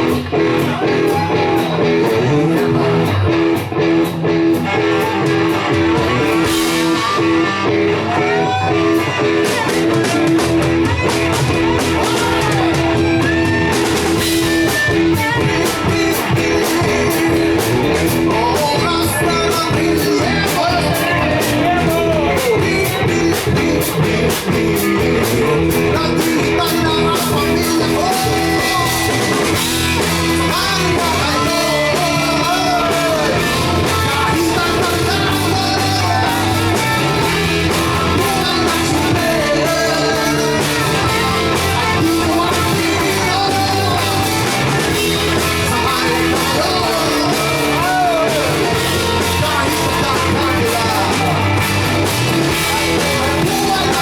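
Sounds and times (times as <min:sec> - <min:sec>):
rock song with singer and band: 0:00.0 - 0:54.0.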